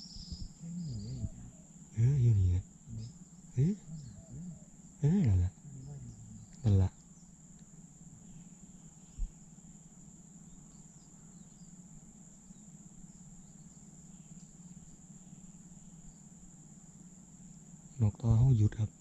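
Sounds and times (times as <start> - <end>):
insects trilling: 0.0 - 19.0
low steady hum: 0.0 - 19.0.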